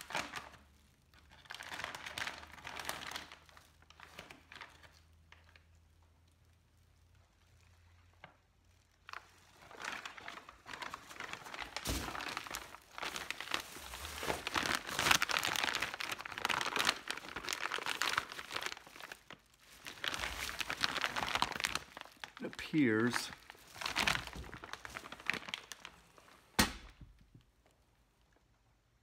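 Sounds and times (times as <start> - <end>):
plastic bag crinkling: 0.0 - 27.2.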